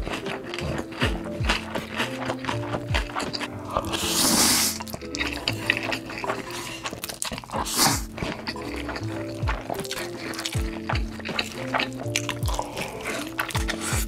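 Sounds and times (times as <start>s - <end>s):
lo-fi music with steady beat: 0.0s - 14.0s
noodles slurped: 0.0s - 14.0s
person chewing: 0.0s - 14.0s.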